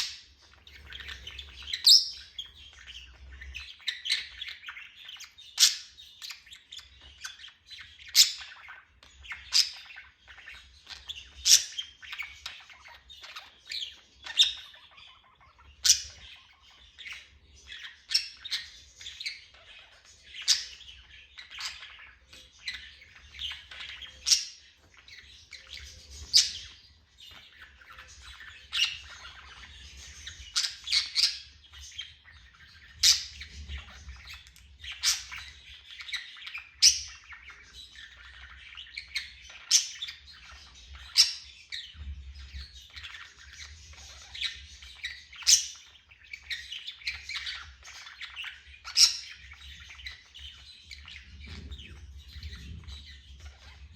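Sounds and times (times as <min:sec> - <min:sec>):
parrot chirping and squawking: 0:00.0 - 0:53.9.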